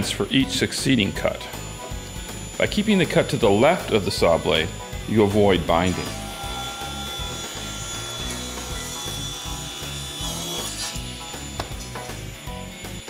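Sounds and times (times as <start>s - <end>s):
soft background music: 0.0s - 13.0s
table saw cutting wood: 0.0s - 13.0s.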